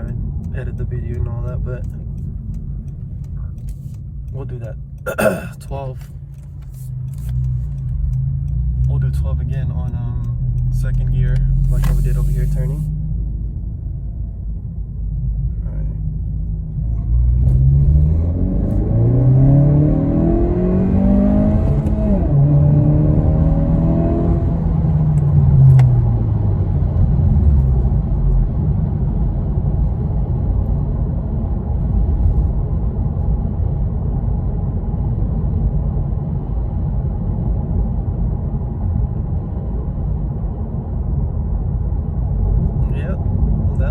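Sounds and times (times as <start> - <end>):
car engine accelerating: 0.0 - 43.9
road rumble inside car: 0.0 - 43.9.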